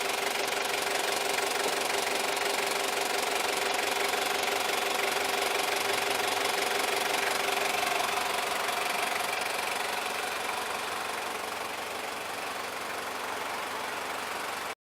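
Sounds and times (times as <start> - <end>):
diesel engine idling: 0.0 - 14.8.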